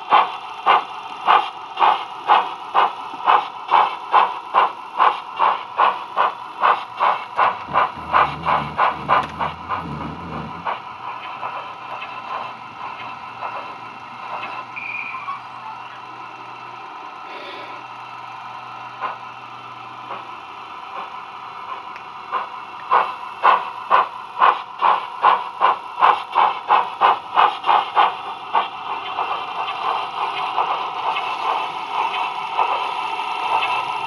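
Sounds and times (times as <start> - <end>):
steam locomotive chuffing: 0.0 - 34.0.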